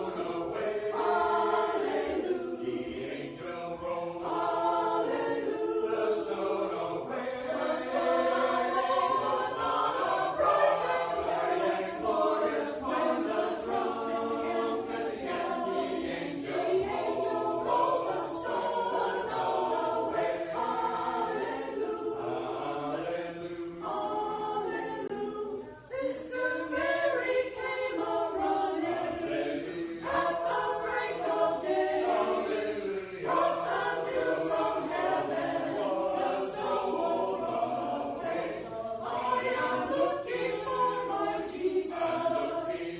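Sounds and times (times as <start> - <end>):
group singing a hymn: 0.0 - 42.9.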